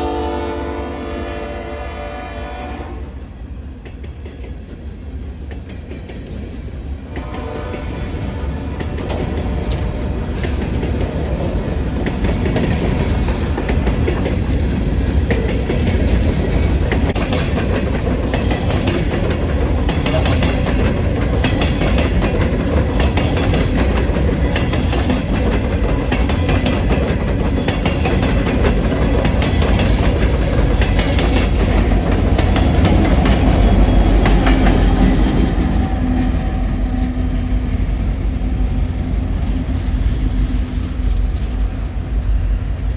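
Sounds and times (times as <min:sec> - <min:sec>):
freight train rumbling: 0:00.0 - 0:42.9.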